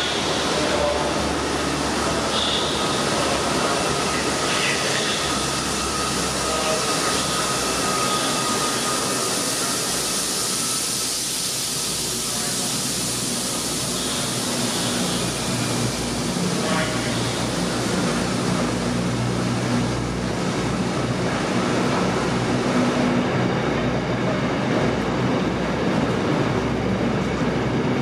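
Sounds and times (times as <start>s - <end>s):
freight train passing: 0.0s - 28.0s.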